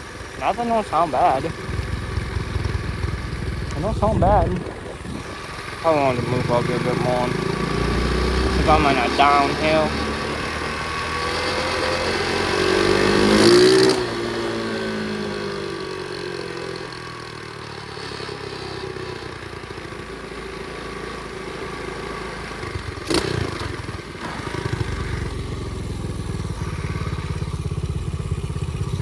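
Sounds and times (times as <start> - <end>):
pit bike engine revving: 0.0 - 29.0.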